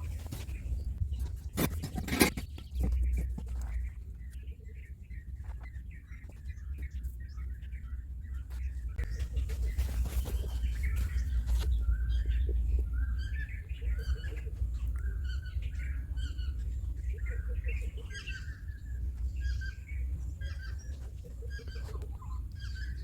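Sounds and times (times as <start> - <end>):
birds chirping: 0.0 - 23.0
low rumble: 0.0 - 23.0.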